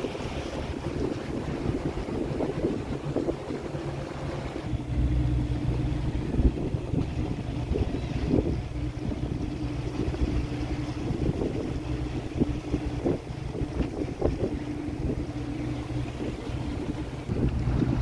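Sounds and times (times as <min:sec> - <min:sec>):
wind gusting on microphone: 0:00.0 - 0:03.7, 0:05.9 - 0:18.0
boat motor droning: 0:00.0 - 0:18.0
water washing past hull: 0:00.0 - 0:18.0.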